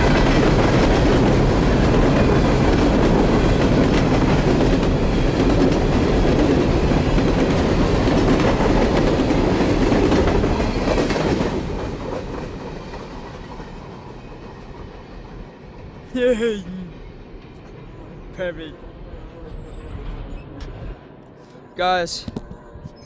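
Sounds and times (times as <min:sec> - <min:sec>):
freight train cars rolling past: 0:00.0 - 0:16.1, 0:16.9 - 0:22.2.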